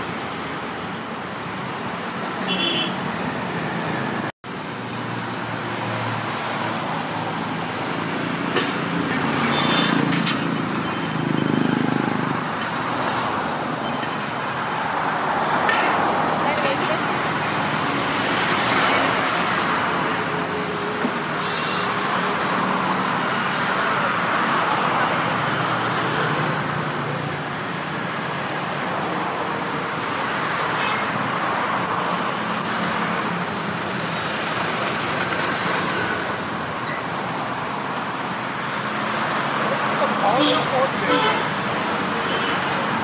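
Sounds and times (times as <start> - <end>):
road traffic hum: 0.0 - 43.0.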